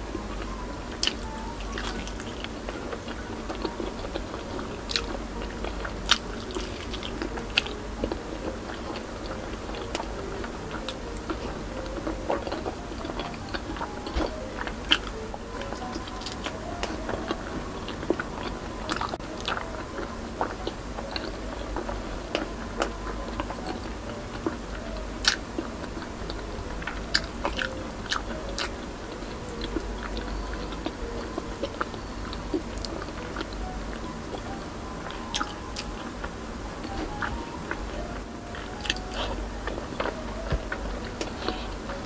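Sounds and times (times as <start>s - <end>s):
person chewing fried fish: 0.4s - 41.8s.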